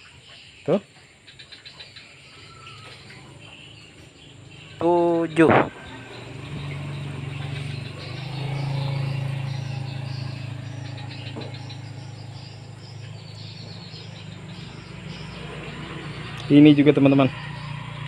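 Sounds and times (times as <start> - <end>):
vehicle engine humming: 1.9 - 18.0.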